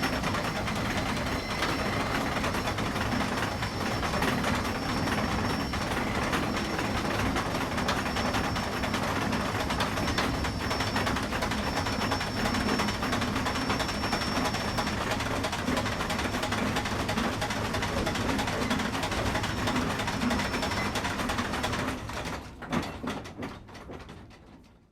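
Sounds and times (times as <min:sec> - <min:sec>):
steam crane mechanical clatter: 0:00.0 - 0:24.8.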